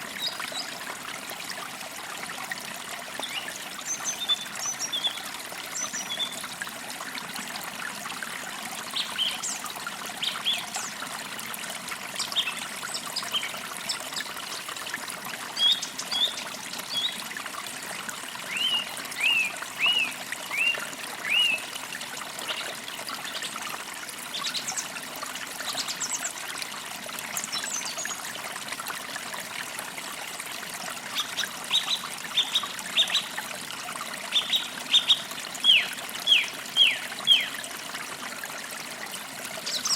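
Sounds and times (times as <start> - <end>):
creek trickling and babbling: 0.0 - 39.9.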